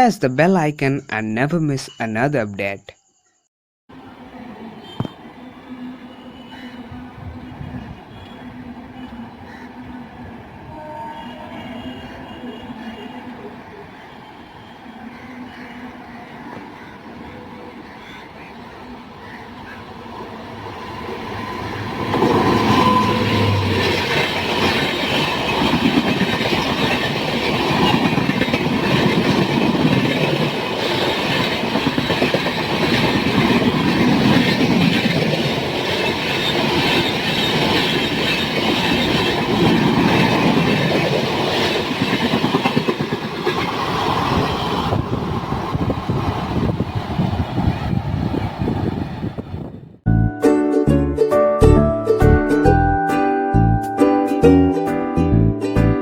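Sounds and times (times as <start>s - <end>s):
train wheels rolling on rails: 3.9s - 49.8s.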